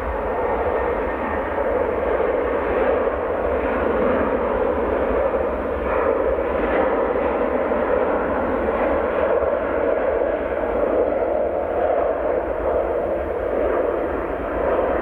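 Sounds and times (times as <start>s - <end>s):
jet engines at high thrust: 0.0s - 15.0s.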